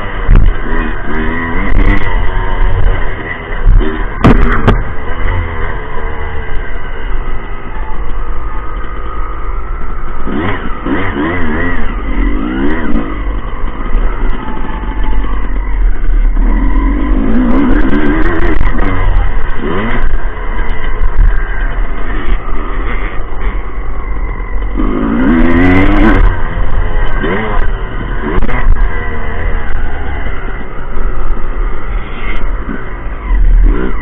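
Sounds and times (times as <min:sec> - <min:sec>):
motocross motorcycles revving: 0:00.0 - 0:34.0.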